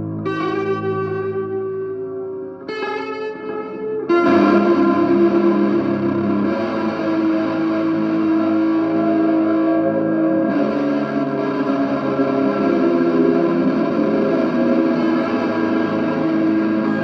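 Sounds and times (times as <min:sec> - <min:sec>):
ambient guitar drone: 0:00.0 - 0:17.0.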